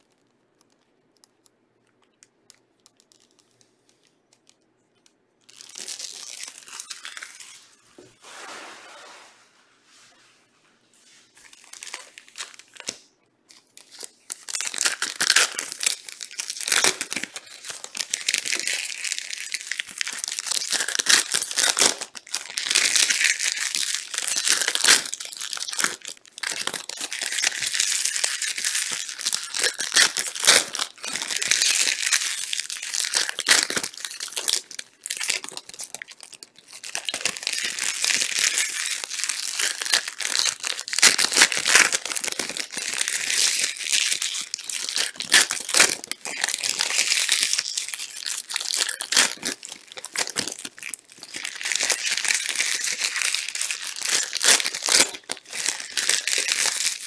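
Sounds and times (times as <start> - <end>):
wrappers crinkling and tearing: 0.0 - 9.2, 11.1 - 57.0.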